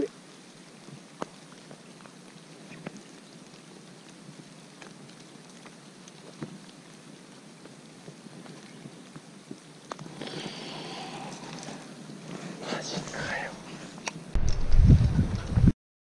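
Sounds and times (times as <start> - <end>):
light rain: 0.0 - 15.7
raindrops tapping close by: 0.0 - 15.7.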